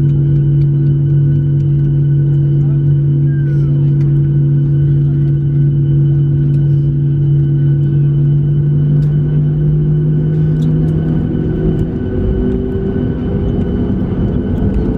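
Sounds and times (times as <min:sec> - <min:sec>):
aircraft cabin low hum: 0:00.0 - 0:14.9.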